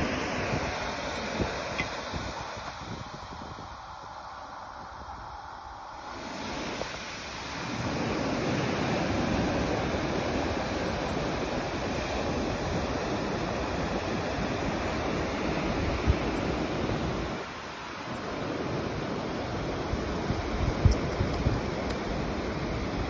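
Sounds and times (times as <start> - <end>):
ocean surf washing onto beach: 0.0 - 23.0.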